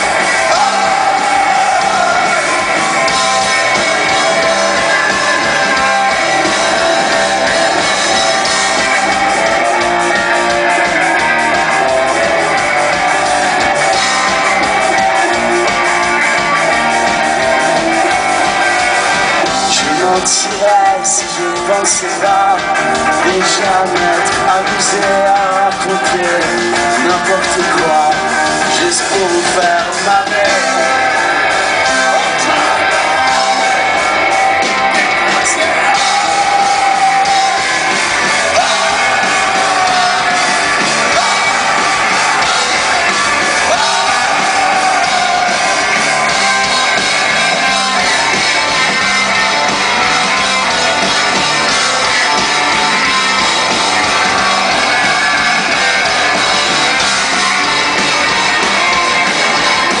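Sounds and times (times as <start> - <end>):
live rock band playing: 0.0 - 60.0
voices singing and shouting: 0.0 - 60.0.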